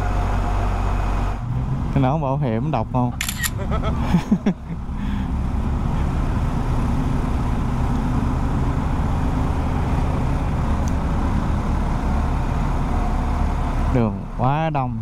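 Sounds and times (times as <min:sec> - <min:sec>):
scooter and truck traffic: 0:00.0 - 0:15.0.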